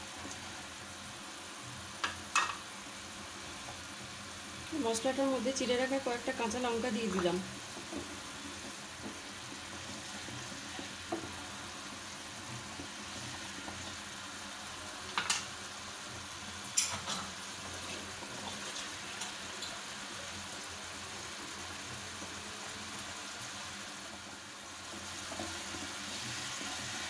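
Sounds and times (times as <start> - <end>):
masala sizzling in oil: 0.0 - 27.0.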